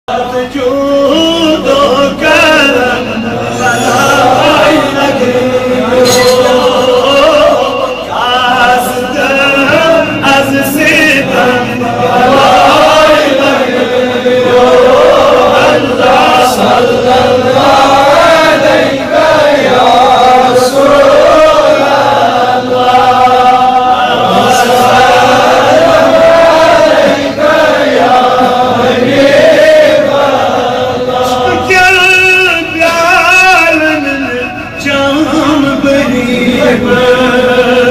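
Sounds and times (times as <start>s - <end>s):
man singing devotional chant: 0.1s - 37.9s.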